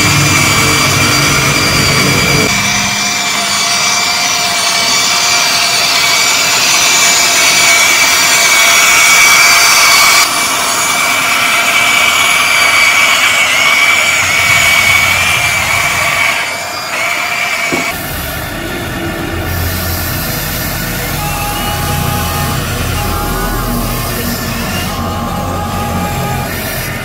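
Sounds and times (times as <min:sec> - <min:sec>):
toy excavator motors whining: 0:00.0 - 0:18.6, 0:19.2 - 0:27.0.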